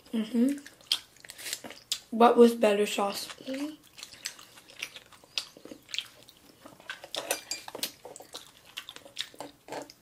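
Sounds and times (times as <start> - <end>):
chewing: 0.0 - 2.1, 3.1 - 10.0.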